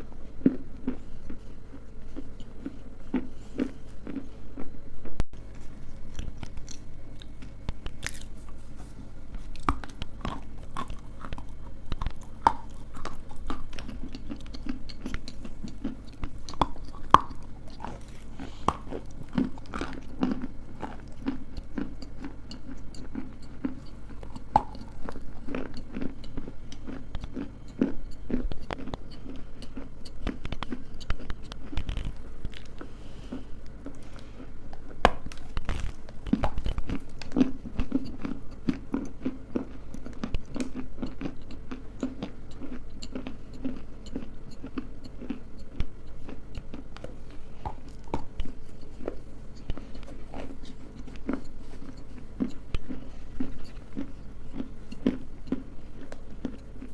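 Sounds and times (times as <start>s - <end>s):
chewing brittle food: 0.0s - 4.8s, 5.4s - 56.9s.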